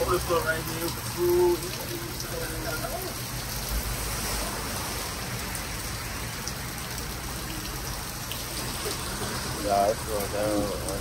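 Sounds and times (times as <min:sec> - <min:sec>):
rain falling on flooded street: 0:00.0 - 0:11.0.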